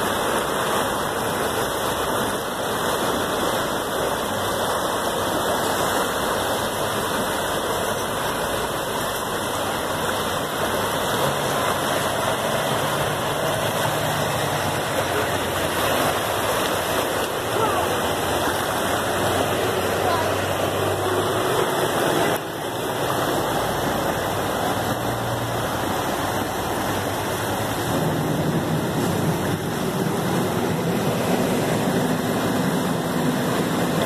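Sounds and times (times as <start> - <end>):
low engine hum: 0.0 - 34.0
river water rushing: 0.0 - 34.0.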